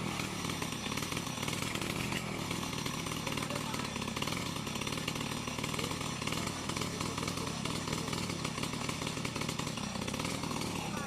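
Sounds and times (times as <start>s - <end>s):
chainsaw cutting tree trunk: 0.0s - 11.0s.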